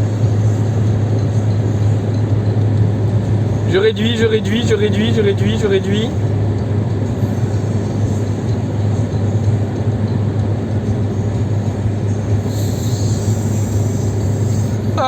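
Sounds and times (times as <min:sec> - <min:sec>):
diesel car engine drone: 0:00.0 - 0:15.0
road noise: 0:00.0 - 0:15.0.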